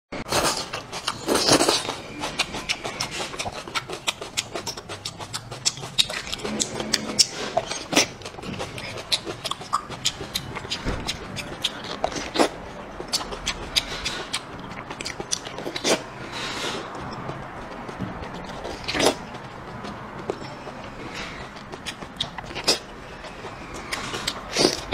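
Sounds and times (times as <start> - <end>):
wet smacking and chewing: 0.3 - 24.9.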